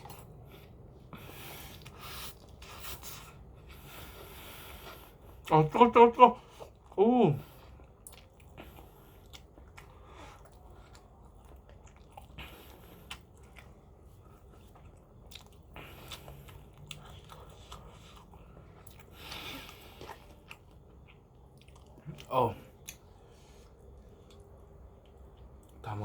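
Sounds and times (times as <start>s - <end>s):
quiet chewing of noodles: 0.0s - 5.5s, 6.4s - 26.0s.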